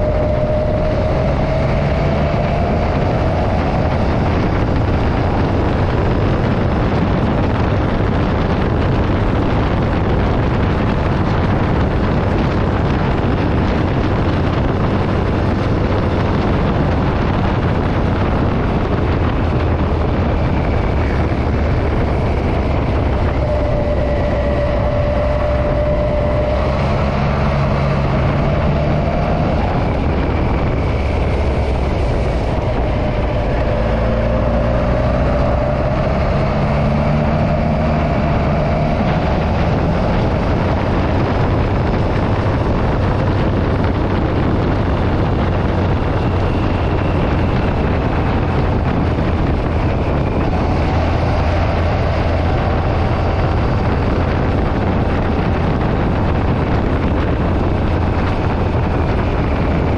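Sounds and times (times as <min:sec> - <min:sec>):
motorcycle engine cruising: 0:00.0 - 0:59.9
wind rush on microphone: 0:00.0 - 0:59.9.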